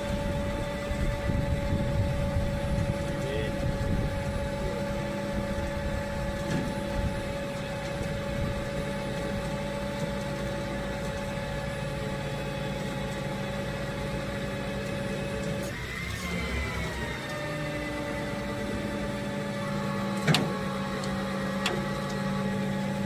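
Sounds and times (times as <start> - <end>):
constant whine: 0.0 - 23.0
truck engine running: 0.0 - 23.0.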